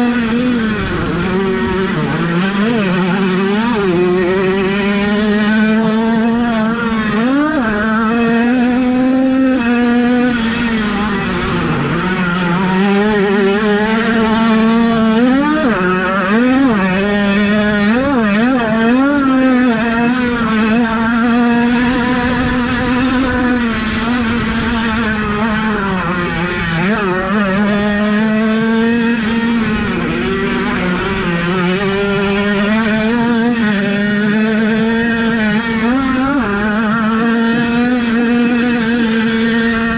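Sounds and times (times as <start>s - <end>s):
dirt bike engines revving: 0.0s - 39.9s
engine high steady drone: 0.0s - 39.9s.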